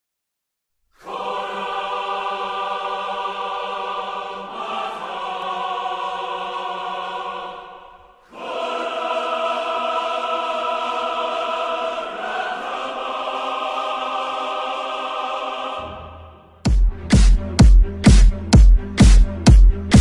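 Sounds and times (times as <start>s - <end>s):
sustained choir-like chords: 1.0s - 17.5s.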